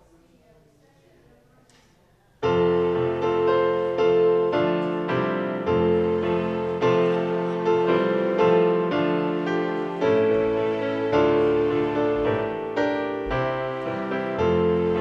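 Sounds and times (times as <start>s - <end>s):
piano chords: 2.4s - 15.0s.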